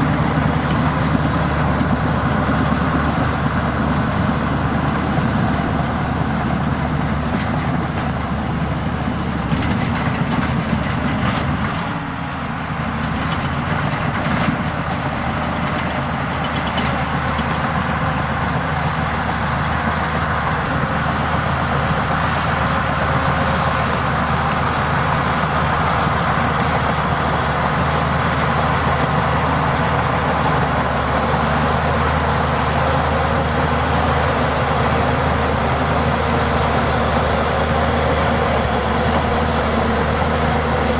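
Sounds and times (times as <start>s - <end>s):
heavy machinery diesel engine: 0.0s - 40.9s.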